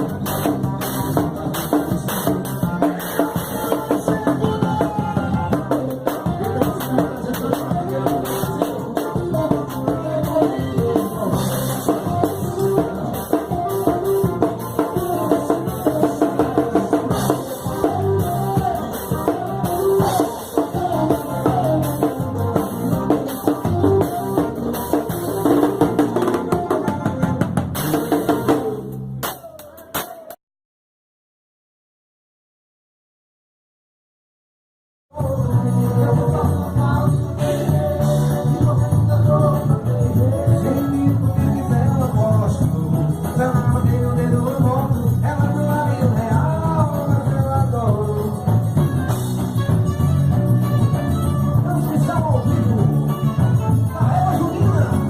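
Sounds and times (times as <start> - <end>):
band playing with drum kit: 0.0 - 30.4, 35.1 - 55.0.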